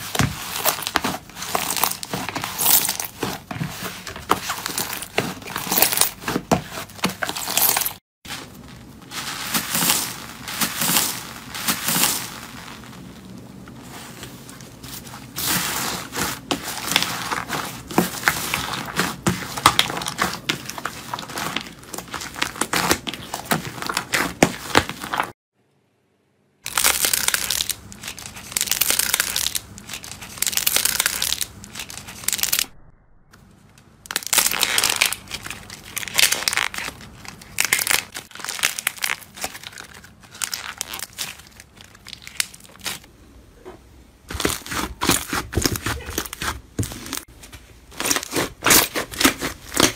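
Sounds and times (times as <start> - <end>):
slime crackling and crunching: 0.0 - 25.3, 26.6 - 32.7, 34.1 - 43.1, 44.3 - 47.3, 47.9 - 49.9.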